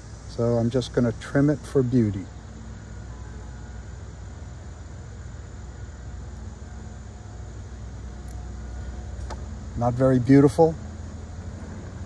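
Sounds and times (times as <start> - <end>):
distant engine rumble: 0.0 - 12.0.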